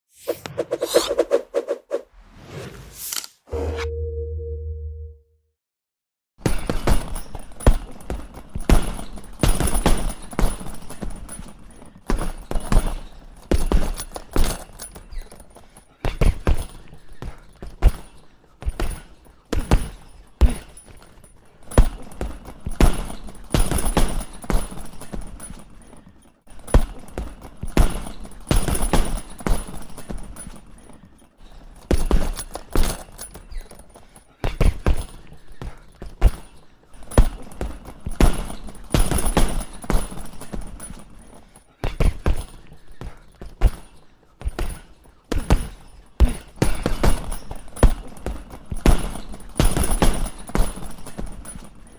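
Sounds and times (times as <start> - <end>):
gloves punching heavy bag: 6.4 - 25.8, 26.5 - 30.9, 31.6 - 51.9.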